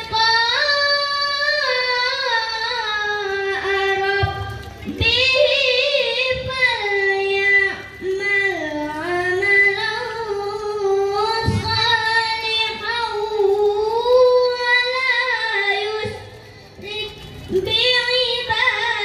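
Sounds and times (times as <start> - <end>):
child chanting recitation: 0.0 - 19.0.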